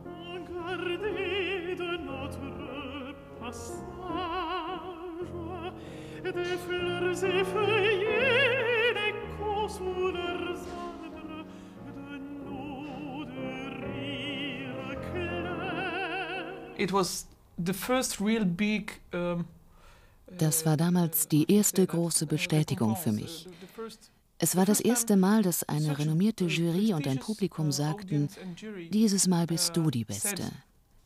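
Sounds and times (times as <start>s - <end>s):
operatic voice singing: 0.0s - 17.0s, 20.3s - 30.6s.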